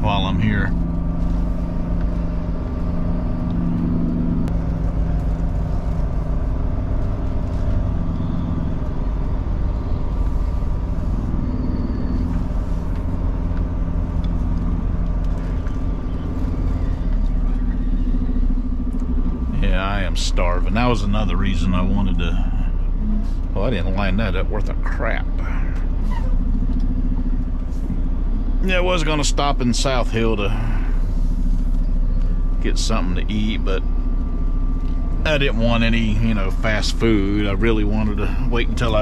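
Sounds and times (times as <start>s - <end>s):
diesel truck engine running: 0.0s - 39.0s.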